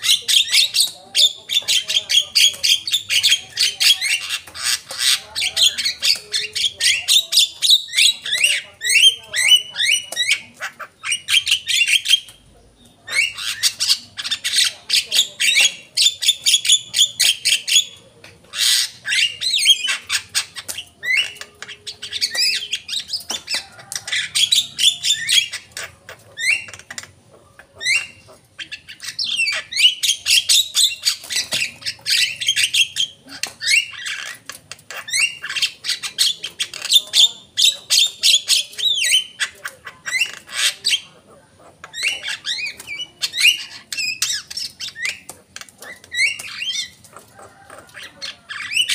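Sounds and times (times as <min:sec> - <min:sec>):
bird chattering and whistling: 0:00.0 - 0:48.9.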